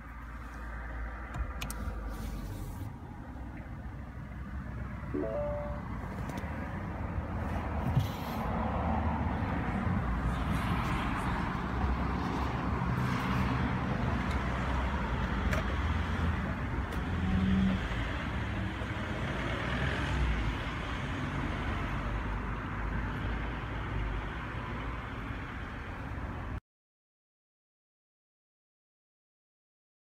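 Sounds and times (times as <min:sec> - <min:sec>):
traffic noise: 0:00.0 - 0:26.6.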